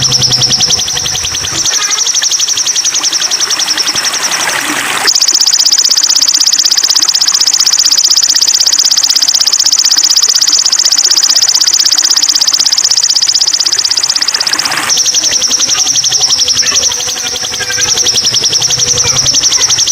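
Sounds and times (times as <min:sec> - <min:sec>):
songbird buzzy trill: 0:00.0 - 0:19.9.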